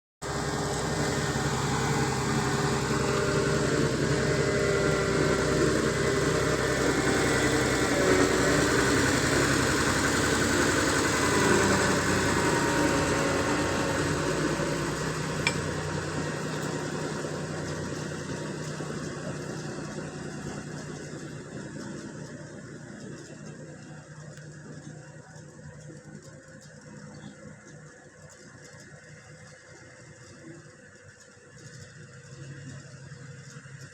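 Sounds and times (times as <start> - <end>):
paving machine engine running: 0.2 - 33.9.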